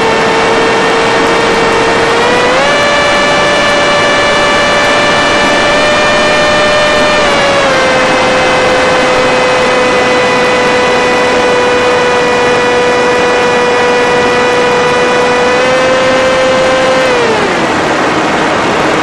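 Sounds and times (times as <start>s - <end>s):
electric motor and propeller whining: 0.0s - 19.0s.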